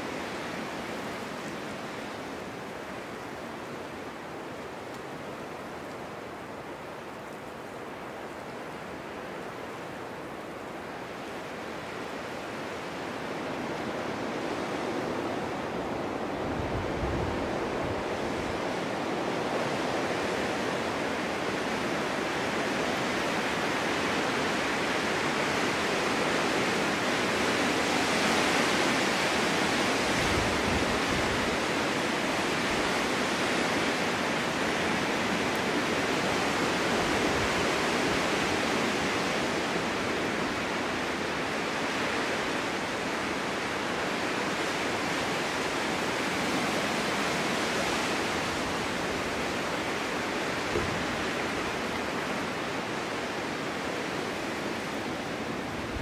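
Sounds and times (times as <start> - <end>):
low rumbling wind gusts: 0.0 - 56.0
snowstorm wind blowing: 0.0 - 56.0.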